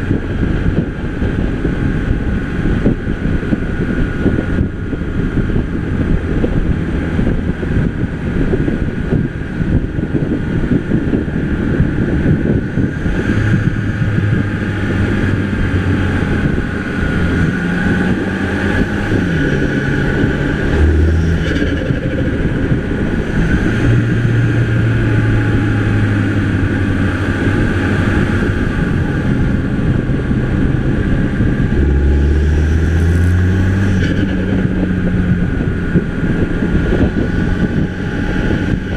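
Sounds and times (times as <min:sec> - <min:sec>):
car engine revving: 0:00.0 - 0:38.9
road and wind noise: 0:00.0 - 0:38.9.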